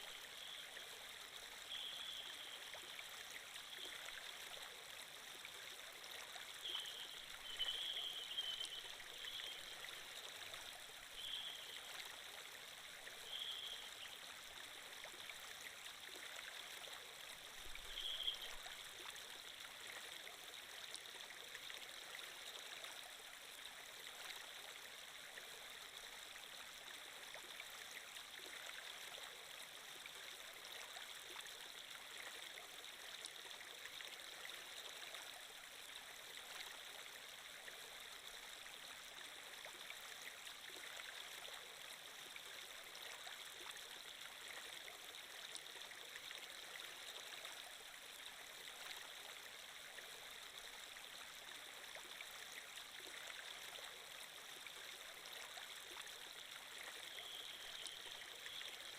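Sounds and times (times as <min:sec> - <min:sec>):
flowing water rushing: 0:00.0 - 0:25.2, 0:25.8 - 0:58.9.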